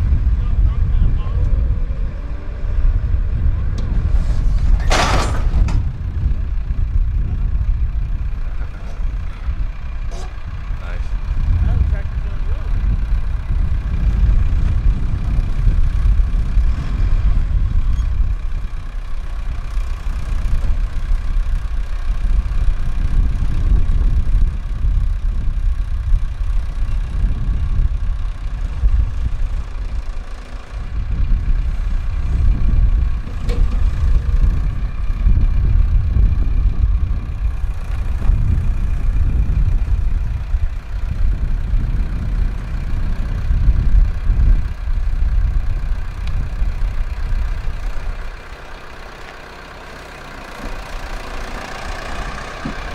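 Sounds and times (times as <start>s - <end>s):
wind buffeting microphone: 0.0s - 49.2s.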